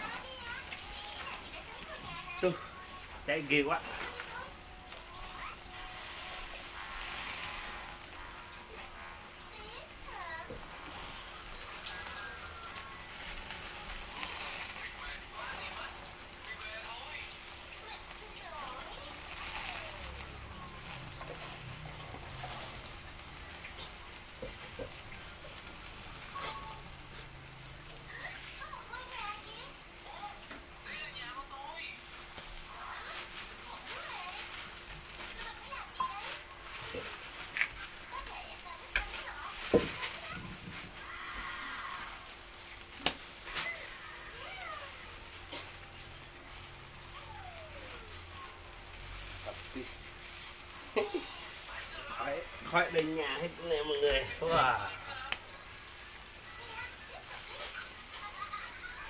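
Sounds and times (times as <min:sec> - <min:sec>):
charcoal crackles and pops: 0:00.0 - 0:59.0
skewers sizzling over charcoal: 0:00.0 - 0:59.0.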